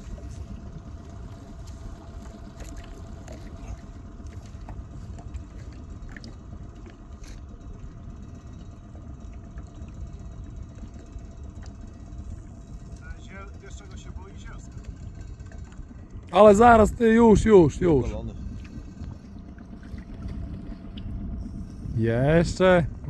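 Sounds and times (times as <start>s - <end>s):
faint motor hum: 0.0s - 23.0s.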